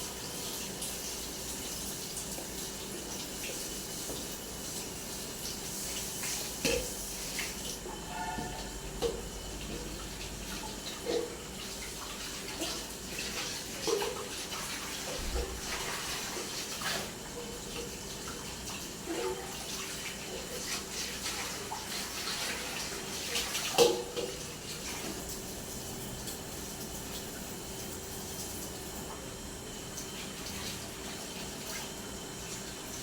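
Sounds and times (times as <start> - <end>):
tap water running into sink: 0.0 - 33.0.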